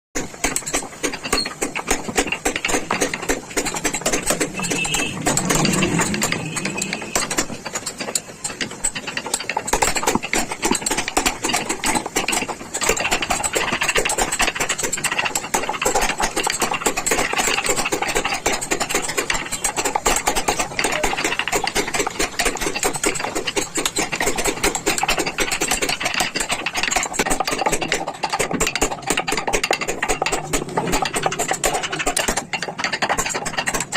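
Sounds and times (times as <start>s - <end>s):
carving tools scraping wood: 0.2s - 33.9s.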